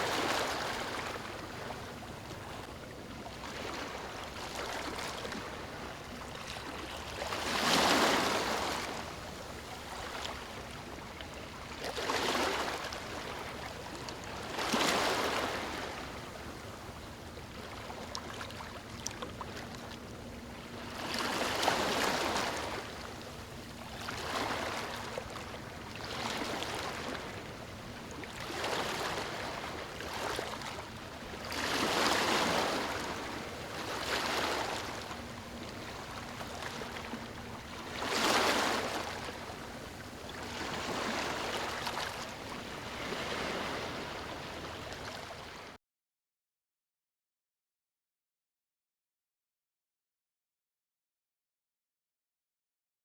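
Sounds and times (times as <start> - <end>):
sea waves breaking on shore: 0.0 - 45.8.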